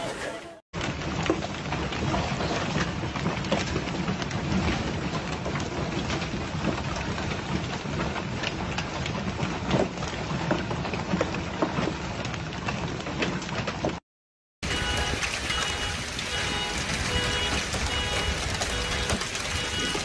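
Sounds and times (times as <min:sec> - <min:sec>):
hail pelting down: 0:00.8 - 0:14.0, 0:14.6 - 0:20.0
hailstones clicking and knocking: 0:00.8 - 0:14.0, 0:14.6 - 0:20.0.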